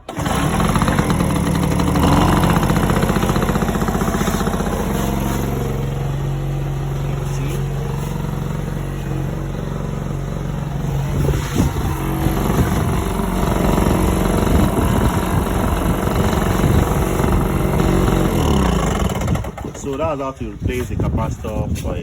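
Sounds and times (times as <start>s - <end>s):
petrol generator engine running: 0.0s - 21.7s.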